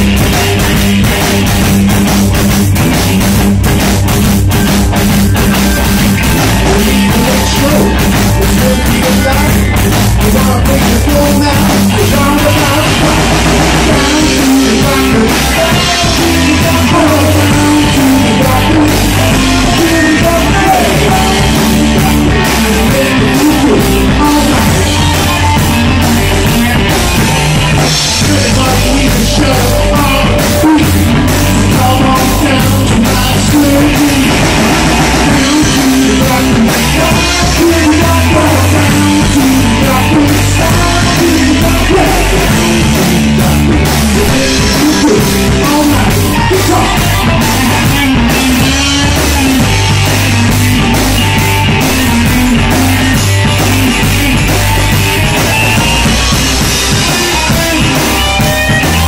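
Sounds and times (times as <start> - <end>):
live rock band: 0.0 - 59.0
man singing: 5.4 - 59.0.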